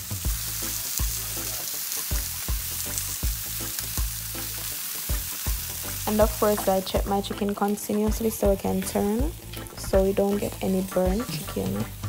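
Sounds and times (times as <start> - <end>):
background music with beat and bass: 0.0 - 12.0
chicken sizzling on grill: 0.0 - 12.0.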